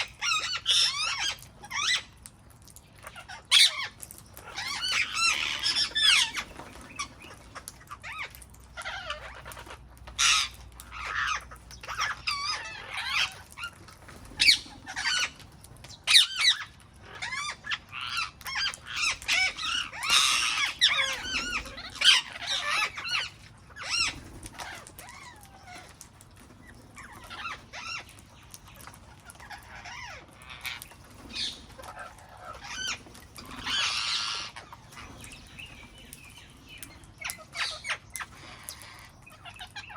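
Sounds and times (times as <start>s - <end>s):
parrots calling: 0.0s - 39.9s.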